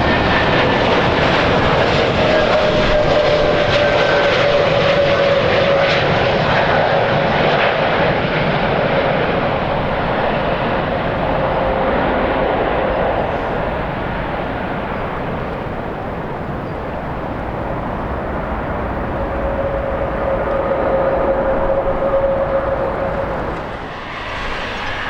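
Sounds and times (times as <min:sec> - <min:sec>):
jet engine noise: 0:00.0 - 0:25.0
wind rumbling on microphone: 0:00.0 - 0:25.0.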